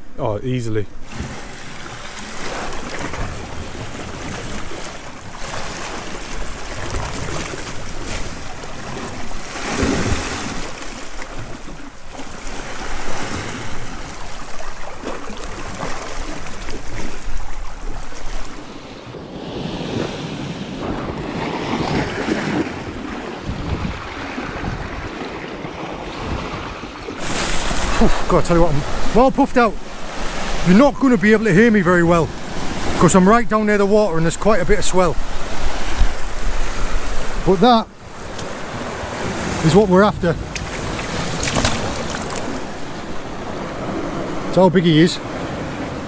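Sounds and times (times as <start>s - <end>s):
waves washing against rocks: 1.0s - 18.9s, 19.5s - 46.0s
wind buffeting microphone: 1.0s - 29.2s, 34.2s - 44.5s.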